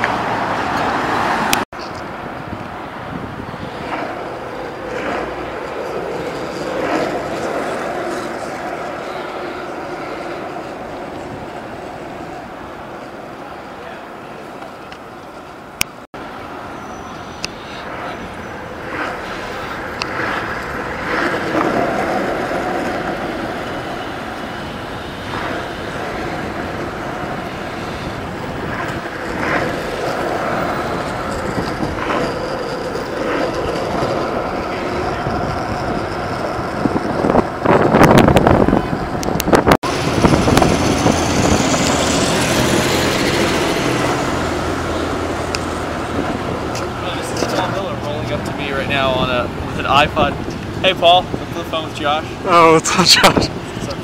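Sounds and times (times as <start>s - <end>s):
street traffic rumble: 0.0s - 54.0s.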